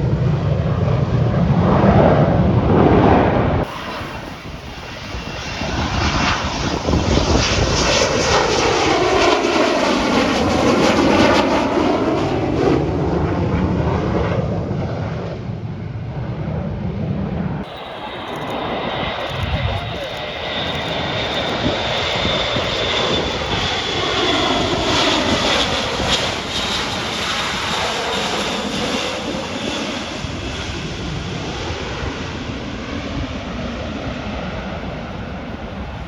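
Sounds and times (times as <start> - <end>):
jet aircraft flying past: 0.0 - 36.0.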